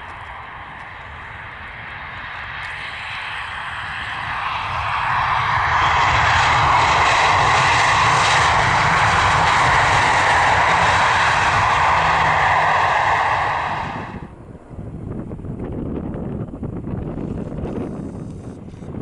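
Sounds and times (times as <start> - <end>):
jet engines roaring: 0.0 - 17.2
low rumble: 0.0 - 18.4.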